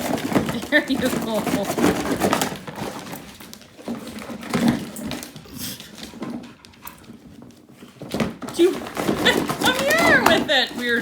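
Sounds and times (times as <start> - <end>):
dog rustling a present: 0.0 - 11.0.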